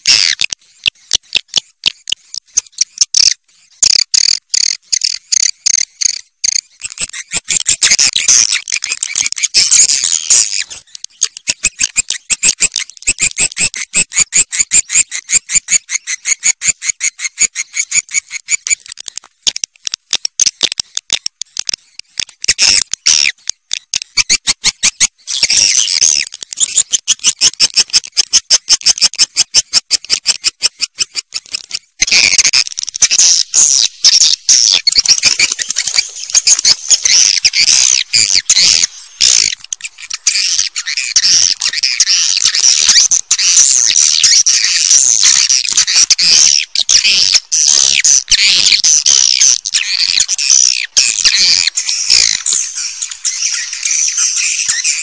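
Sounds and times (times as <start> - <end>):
swiftlet chirping and twittering: 0.0 - 18.9, 24.2 - 55.0.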